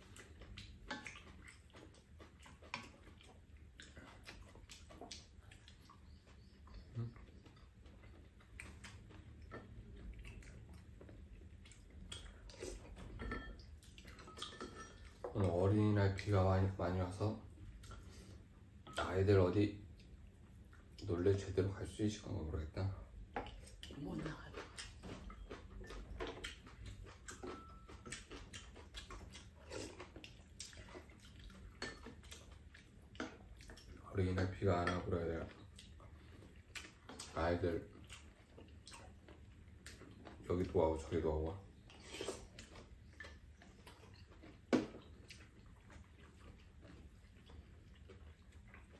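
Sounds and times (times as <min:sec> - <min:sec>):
chewing: 0:00.0 - 0:48.9.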